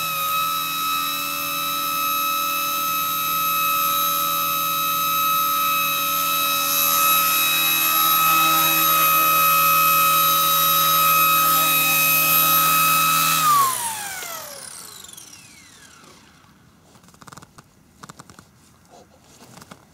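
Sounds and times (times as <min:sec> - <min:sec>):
toy helicopter rotor whine: 0:00.0 - 0:18.3.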